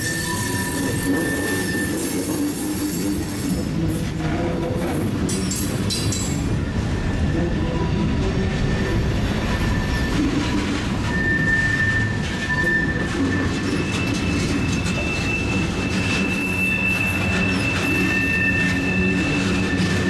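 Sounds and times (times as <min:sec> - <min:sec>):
wheel squeal: 0:00.0 - 0:06.4, 0:08.7 - 0:20.0
train wheels rumbling on rail: 0:00.0 - 0:20.0.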